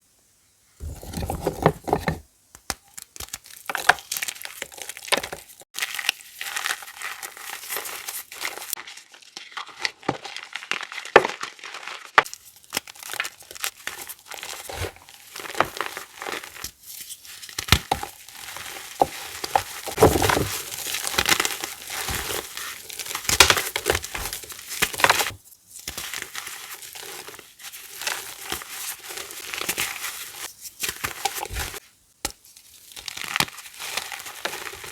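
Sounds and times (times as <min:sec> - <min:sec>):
chalk blocks crushed and crumbled: 0:00.8 - 0:16.8, 0:17.4 - 0:34.9.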